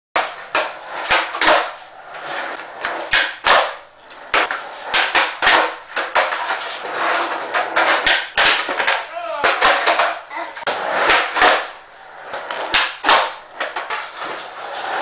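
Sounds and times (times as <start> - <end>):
skateboard rolling on floor: 0.2 - 15.0
skateboard slapping down: 0.2 - 15.0
skateboard tail clacks: 0.2 - 15.0.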